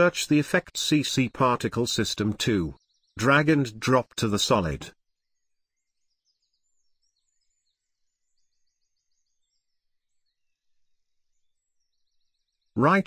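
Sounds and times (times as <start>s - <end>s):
faint chirping: 1.0s - 13.0s.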